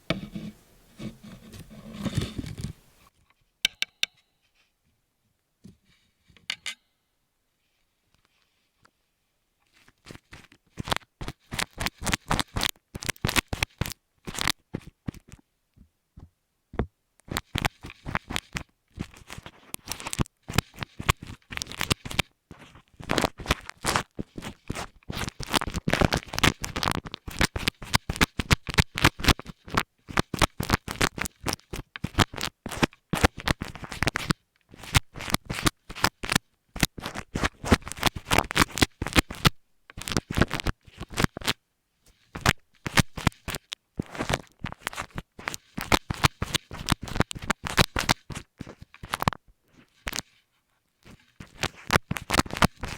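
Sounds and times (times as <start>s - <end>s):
scratching on earphone microphone: 0.0s - 3.1s, 9.7s - 15.4s, 17.2s - 52.9s.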